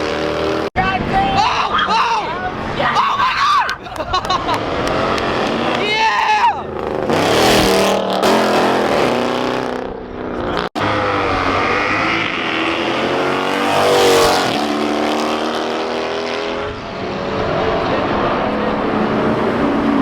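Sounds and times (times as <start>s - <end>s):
car engines revving and accelerating: 0.0s - 3.0s, 3.8s - 20.0s.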